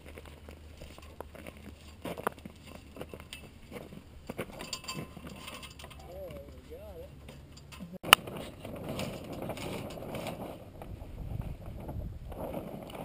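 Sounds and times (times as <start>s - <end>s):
rustling and knocking of rigging: 0.0s - 13.0s.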